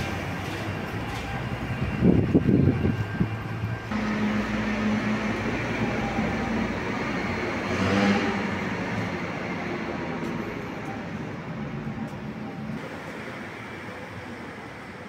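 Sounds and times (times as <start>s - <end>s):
vehicle passing: 0.0s - 12.7s.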